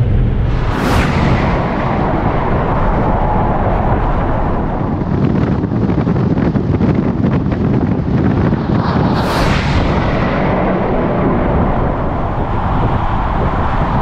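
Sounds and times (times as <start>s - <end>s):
sudden whoosh: 0.0s - 5.6s, 8.0s - 14.0s
car wind and road rush: 0.0s - 14.0s
wind buffeting on microphone: 0.0s - 14.0s.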